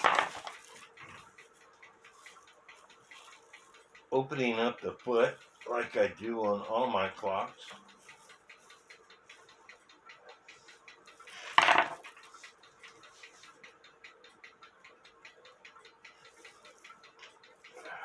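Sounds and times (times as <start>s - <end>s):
clock ticking fast: 0.0s - 18.0s.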